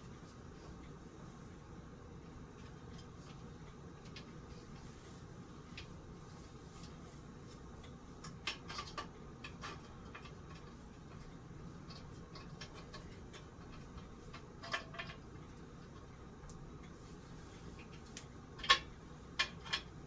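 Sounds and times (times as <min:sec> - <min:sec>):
steady low hum: 0:00.0 - 0:20.0
small fan parts clicking: 0:01.9 - 0:20.0.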